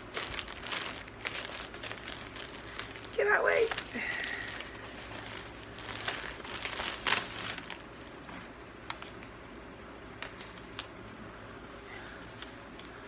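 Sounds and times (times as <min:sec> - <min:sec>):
packaging rustling and crinkling: 0:00.0 - 0:11.0, 0:12.0 - 0:13.0.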